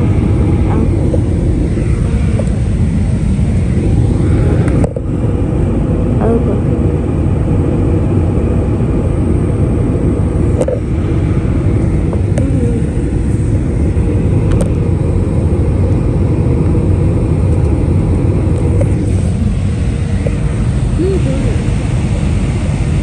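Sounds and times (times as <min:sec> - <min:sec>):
engine and airflow rush: 0:00.0 - 0:23.0
steady hum: 0:00.0 - 0:23.0.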